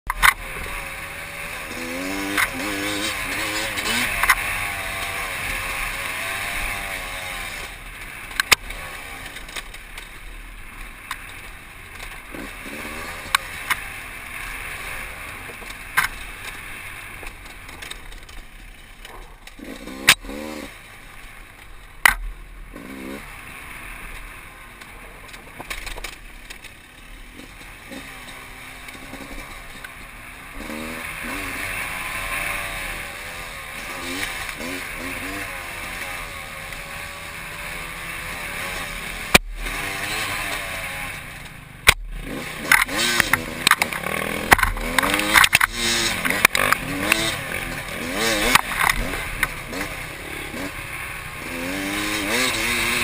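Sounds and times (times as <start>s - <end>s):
motorcycle engine revving: 0.1s - 53.0s.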